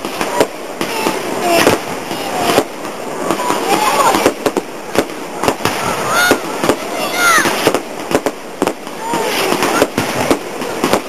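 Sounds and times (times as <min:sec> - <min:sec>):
fireworks bangs and cracks: 0:00.0 - 0:11.0
people's voices: 0:00.0 - 0:11.0.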